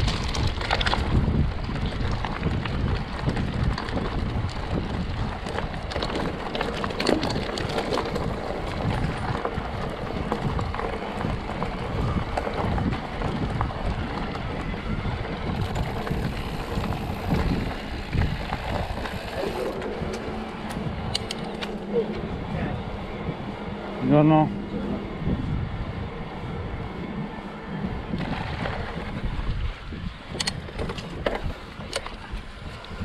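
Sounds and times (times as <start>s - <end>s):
bike clicks and rattles: 0.0s - 33.0s
tyres rumbling on dirt: 0.0s - 33.0s
wind rushing over microphone: 0.0s - 33.0s.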